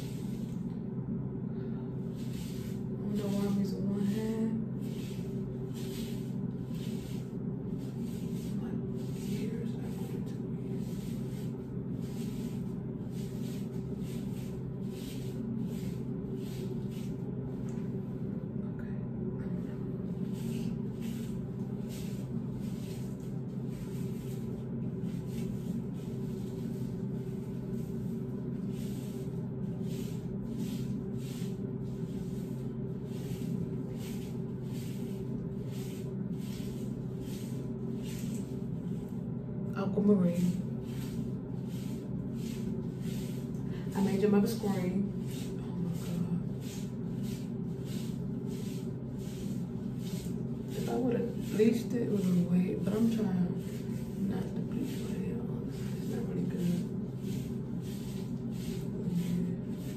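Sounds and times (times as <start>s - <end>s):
steady low hum: 0.0s - 59.9s
hands rustling through wet hair: 2.0s - 18.2s, 19.6s - 59.9s.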